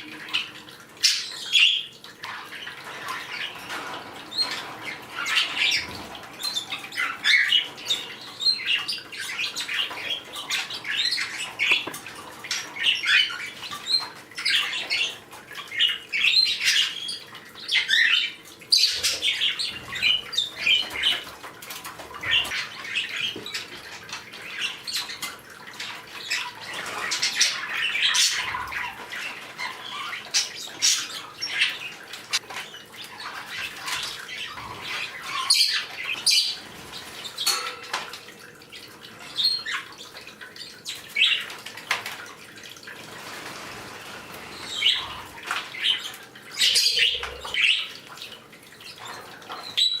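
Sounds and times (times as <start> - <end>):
parrots squawking and chirping: 0.2 - 21.4, 22.2 - 38.1, 43.5 - 50.0.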